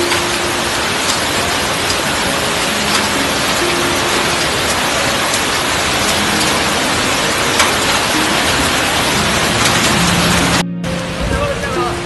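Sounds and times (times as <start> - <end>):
heavy rain pouring: 0.0 - 12.0
raindrops ticking close by: 0.0 - 12.0.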